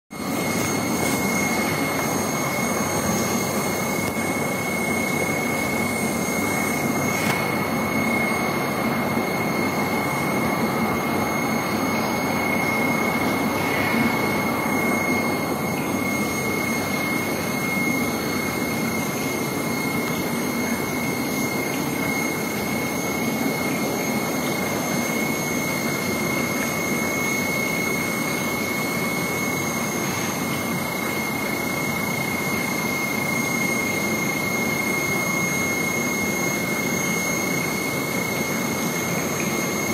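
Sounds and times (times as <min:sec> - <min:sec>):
aquarium air pumps humming: 0:00.1 - 0:39.9
high whine: 0:00.1 - 0:39.9.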